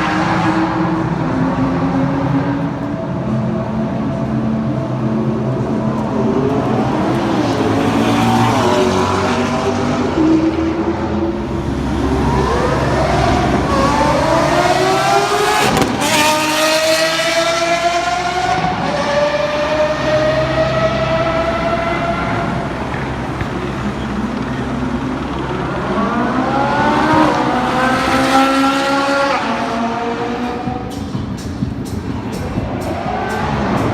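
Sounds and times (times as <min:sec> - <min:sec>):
sports car engine accelerating: 0:00.0 - 0:33.9.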